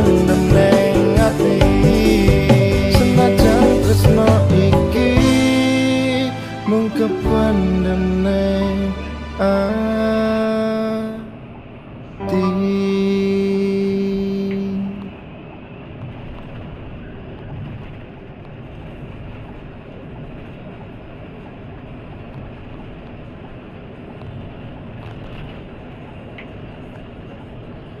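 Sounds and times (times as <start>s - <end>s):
bus engine and tyres rumbling: 0.0s - 28.0s.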